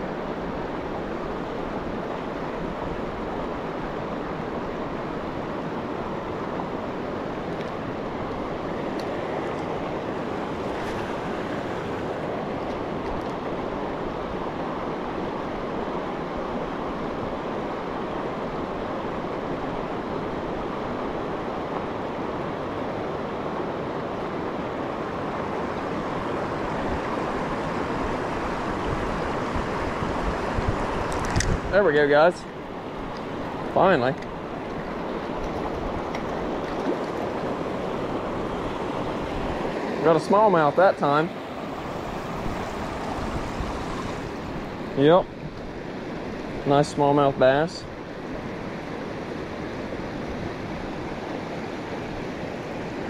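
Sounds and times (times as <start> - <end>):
river rapids rushing: 0.0 - 53.0.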